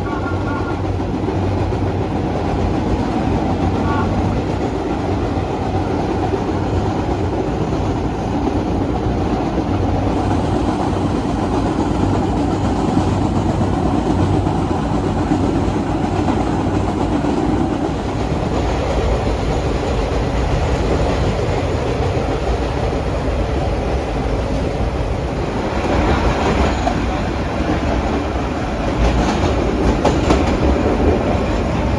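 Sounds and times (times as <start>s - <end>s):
subway train rumble: 0.0s - 31.9s.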